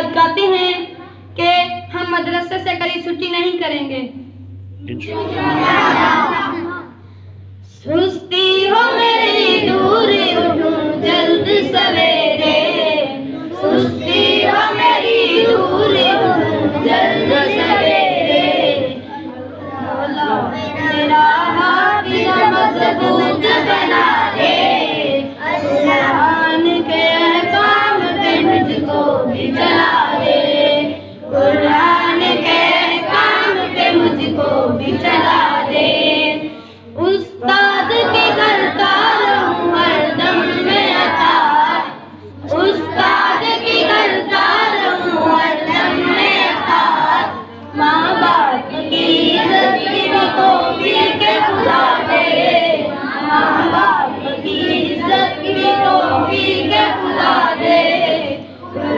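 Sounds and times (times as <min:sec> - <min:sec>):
children singing along: 0:05.0 - 0:07.0, 0:08.4 - 0:58.9.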